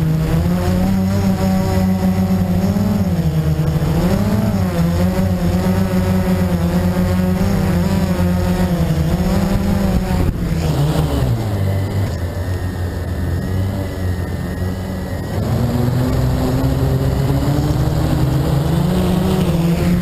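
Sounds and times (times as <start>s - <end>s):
drone hitting grass: 0.0s - 20.0s
quadcopter motors buzzing: 0.0s - 20.0s.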